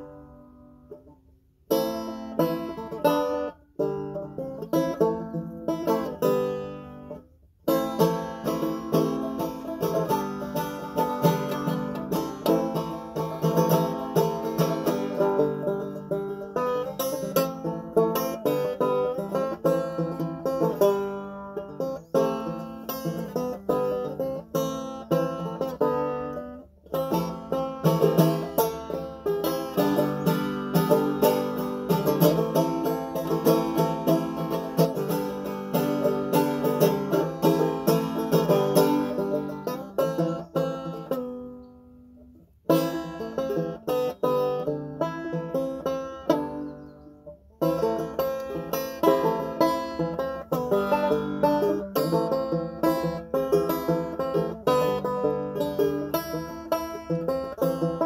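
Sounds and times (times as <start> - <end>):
banjo picking: 0.0 - 58.0.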